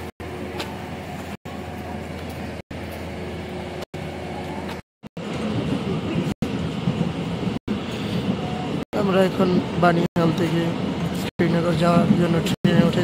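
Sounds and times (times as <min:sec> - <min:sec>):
diesel train running: 0:00.0 - 0:13.0.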